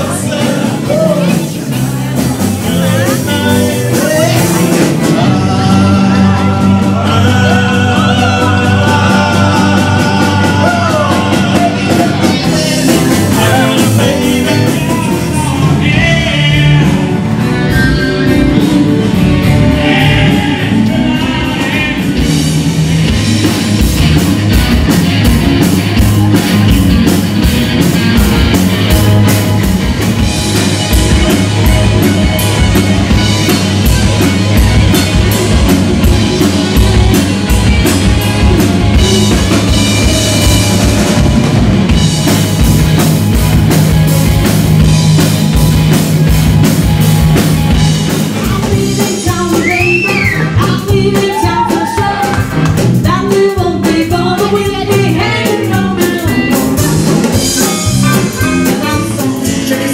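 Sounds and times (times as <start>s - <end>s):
hard drum beat: 0.0s - 59.9s
live rock band playing: 0.0s - 59.9s.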